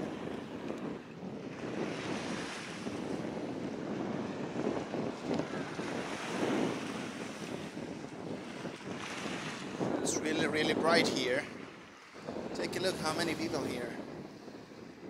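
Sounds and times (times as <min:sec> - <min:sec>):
small waves washing on sandy shore: 0:00.0 - 0:15.0
wind buffeting microphone: 0:00.0 - 0:15.0.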